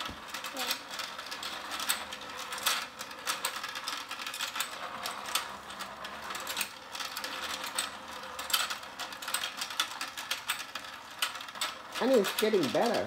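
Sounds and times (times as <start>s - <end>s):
plastic gears clicking and rattling: 0.0s - 13.0s
toy motor humming: 0.0s - 13.0s.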